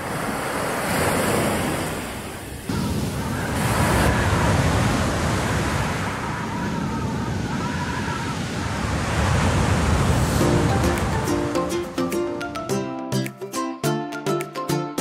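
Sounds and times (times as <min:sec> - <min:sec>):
ocean surf on beach: 0:00.0 - 0:13.2.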